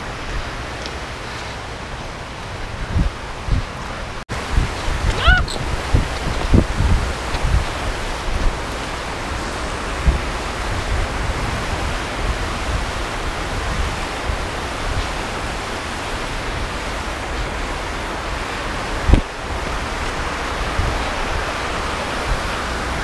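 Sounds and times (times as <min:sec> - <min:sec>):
river water pouring over weir: 0:00.0 - 0:23.0.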